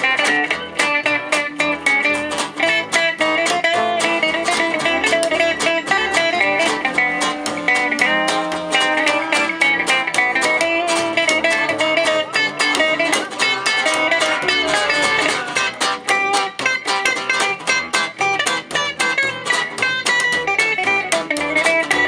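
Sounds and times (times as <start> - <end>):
gypsy jazz band playing: 0.0 - 22.0.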